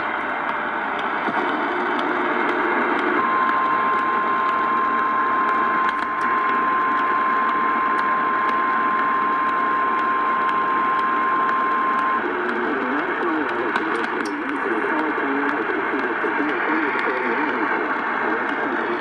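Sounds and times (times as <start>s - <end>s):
radio static hiss with crackles: 0.0s - 19.0s
steady warning alarm tone: 0.0s - 19.0s.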